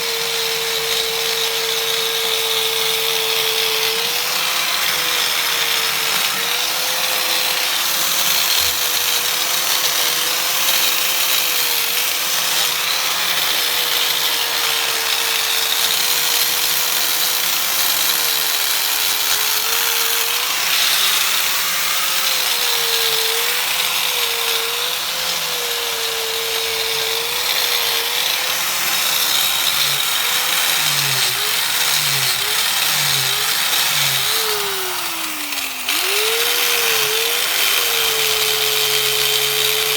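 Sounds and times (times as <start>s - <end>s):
angle grinder polishing metal: 0.0s - 39.9s.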